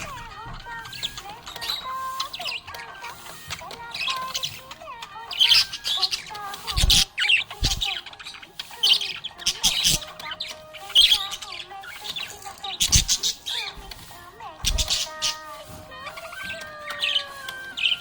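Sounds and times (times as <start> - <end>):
budgerigars chirping: 0.0 - 18.0.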